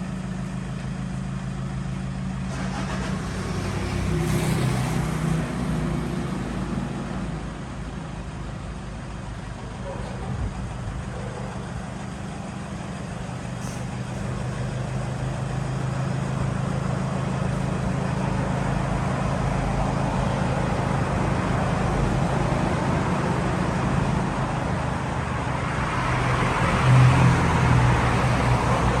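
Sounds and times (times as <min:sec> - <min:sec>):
road noise: 0:00.0 - 0:29.0
vehicle engine: 0:00.0 - 0:29.0.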